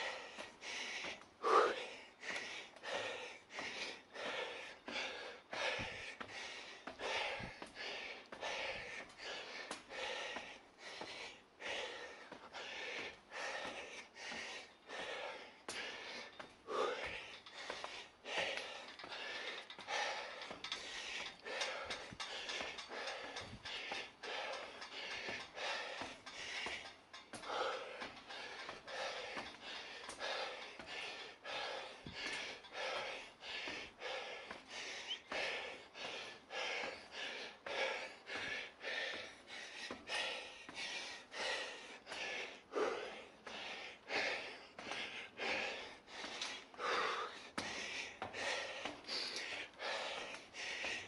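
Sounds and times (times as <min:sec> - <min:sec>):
person panting hard: 0:00.0 - 0:51.0.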